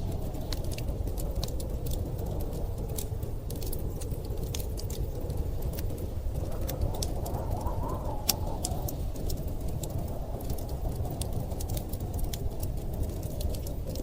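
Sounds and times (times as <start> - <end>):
fire crackling and popping: 0.0 - 14.0
storm wind rushing and howling: 0.0 - 14.0.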